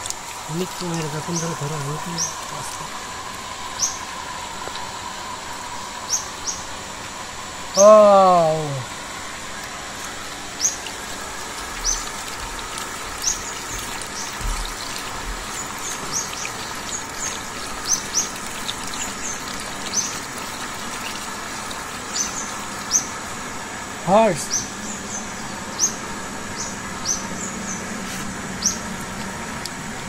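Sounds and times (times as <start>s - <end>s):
water running from a pipe: 0.0s - 24.5s.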